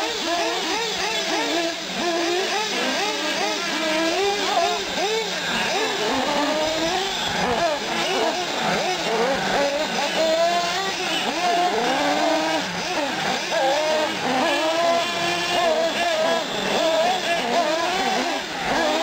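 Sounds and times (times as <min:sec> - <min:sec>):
rc car engines revving: 0:00.0 - 0:19.0.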